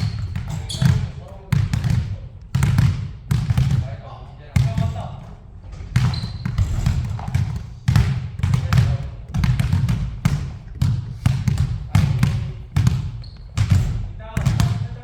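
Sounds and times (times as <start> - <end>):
basketball dribbling: 0.0 - 15.0.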